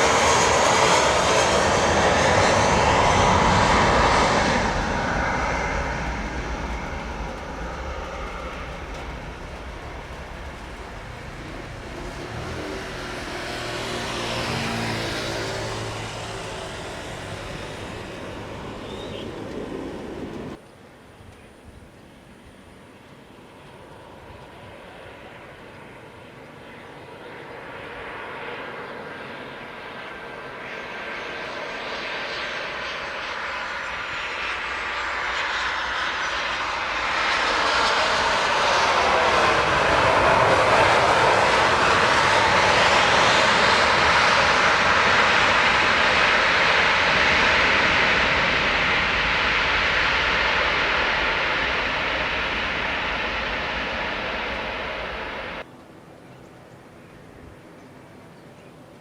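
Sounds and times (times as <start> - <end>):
airliner engines passing: 0.0 - 59.0.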